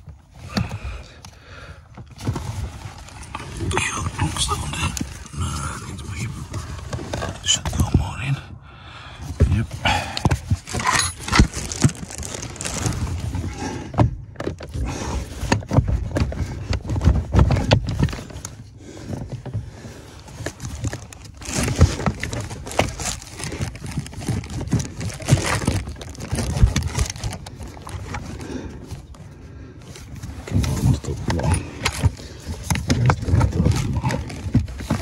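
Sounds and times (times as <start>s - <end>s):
gloves rustling: 0.0s - 8.2s, 9.2s - 35.0s.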